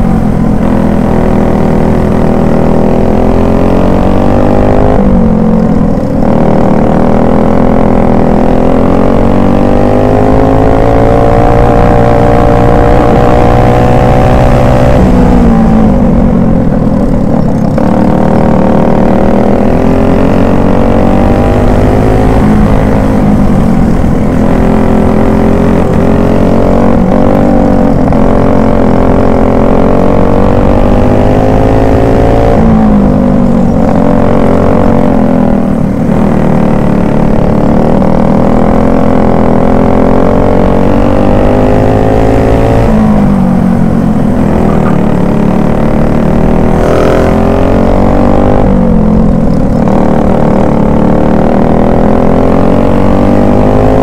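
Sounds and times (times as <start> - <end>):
racing kart engine at full throttle: 0.0 - 54.0.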